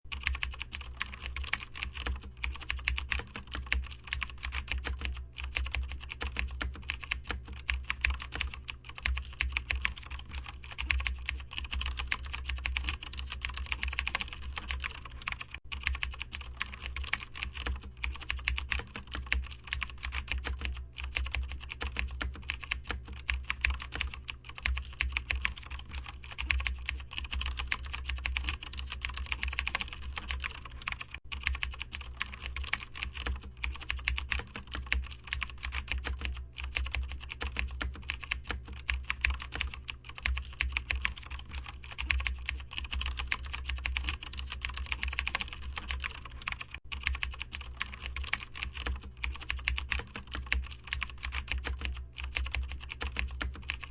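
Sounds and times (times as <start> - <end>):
steady low hum: 0.0 - 53.9
fast typing on computer keyboard: 0.1 - 53.9.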